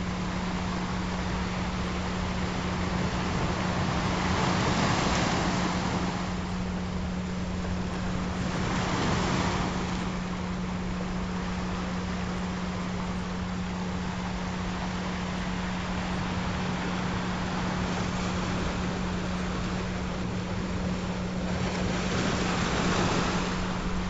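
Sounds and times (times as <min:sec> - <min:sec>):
low hum-like tone: 0:00.0 - 0:24.0
ocean waves: 0:00.0 - 0:24.0.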